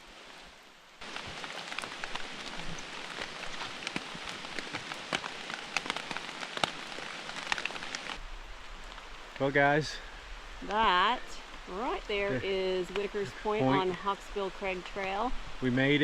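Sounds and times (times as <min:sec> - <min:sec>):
steady rain falling: 0:00.0 - 0:16.0
raindrop hits: 0:01.0 - 0:15.2.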